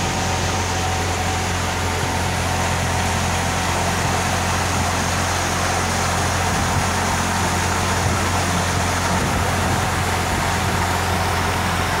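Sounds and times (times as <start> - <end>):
boat motor humming: 0.0 - 12.0
wake water rushing: 0.0 - 12.0
wind: 0.0 - 12.0.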